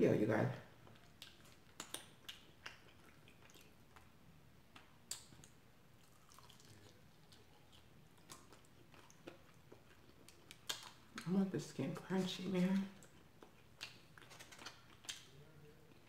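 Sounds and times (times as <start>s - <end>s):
person chewing: 0.8s - 11.3s, 12.9s - 16.0s.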